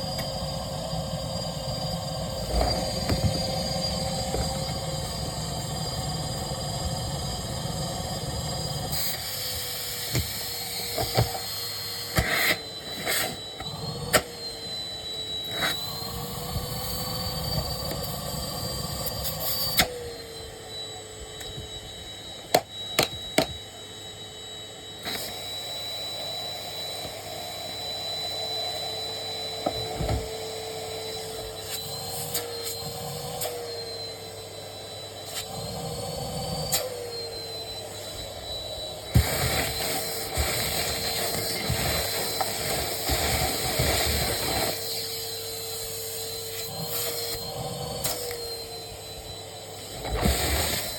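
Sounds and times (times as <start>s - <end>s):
vacuum cleaner motor whine: 0.0s - 50.9s.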